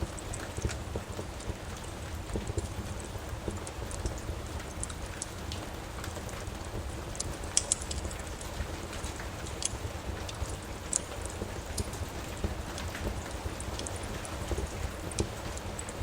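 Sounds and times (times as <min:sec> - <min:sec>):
fire popping and snapping: 0:00.0 - 0:16.0
rain hiss: 0:00.0 - 0:16.0
wood fire crackling: 0:00.0 - 0:16.0.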